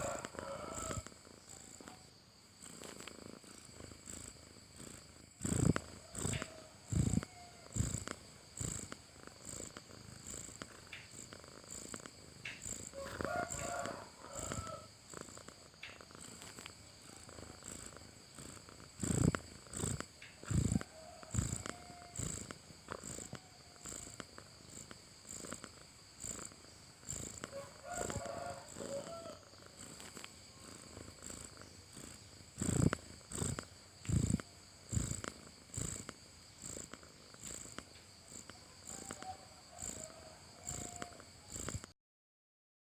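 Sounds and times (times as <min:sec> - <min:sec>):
cat snoring low rumble: 0:00.0 - 0:42.0.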